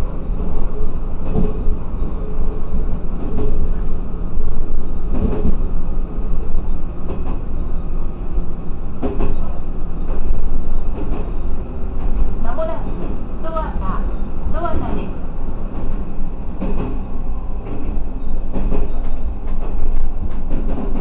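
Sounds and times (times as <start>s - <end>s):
railcar engine and wheel rumble: 0.0s - 21.0s.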